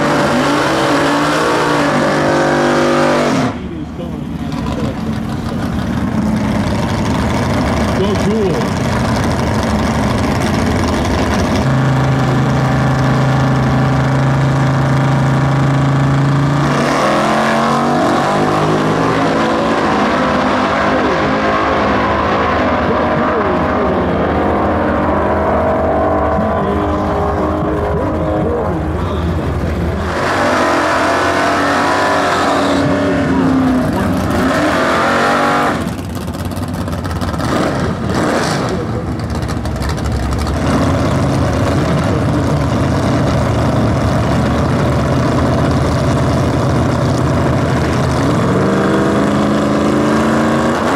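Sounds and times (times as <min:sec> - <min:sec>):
drag racing engines revving: 0:00.0 - 0:50.9.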